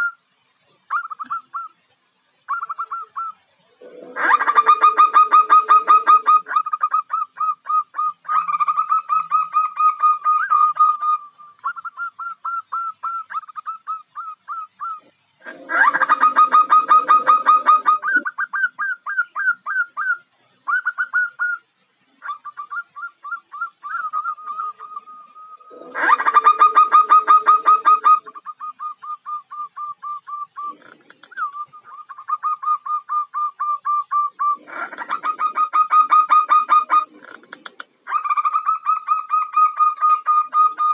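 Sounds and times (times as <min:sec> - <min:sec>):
dove calling in rapid clipped notes: 0:00.9 - 0:01.8, 0:02.5 - 0:40.9.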